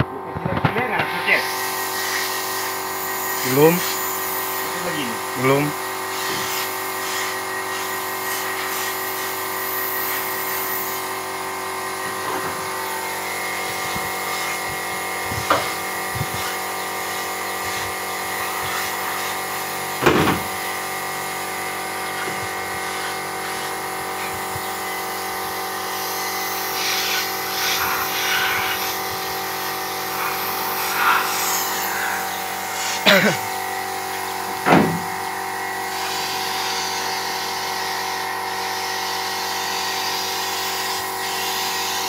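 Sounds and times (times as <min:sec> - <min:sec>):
air compressor humming: 0:00.0 - 0:42.0
spray gun hissing: 0:01.3 - 0:42.0.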